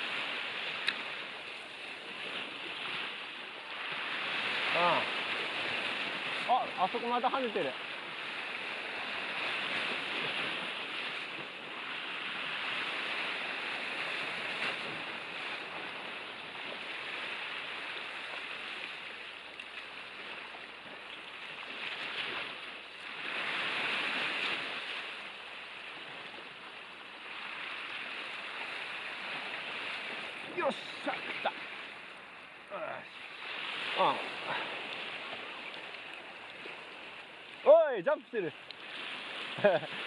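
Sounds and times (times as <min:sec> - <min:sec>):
sea surf washing ashore: 0:00.0 - 0:40.0.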